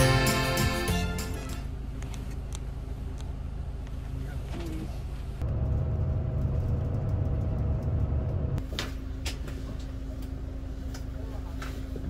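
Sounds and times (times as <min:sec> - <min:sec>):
vehicle rumble from inside: 0:01.4 - 0:12.0.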